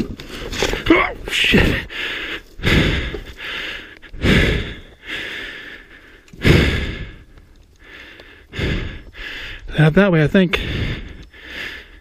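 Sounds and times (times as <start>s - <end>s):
person breathing hard: 0.2s - 9.7s, 10.5s - 12.0s.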